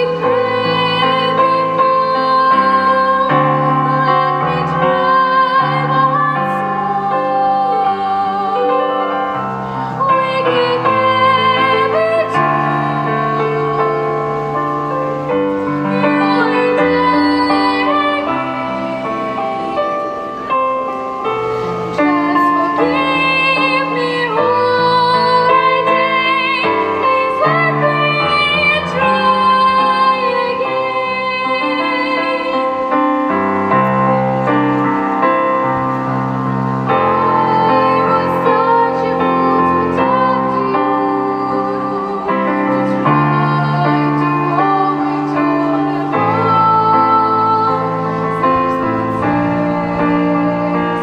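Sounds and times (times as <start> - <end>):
girl singing classically: 0.0 - 33.2, 36.0 - 51.0
piano accompaniment: 0.0 - 51.0.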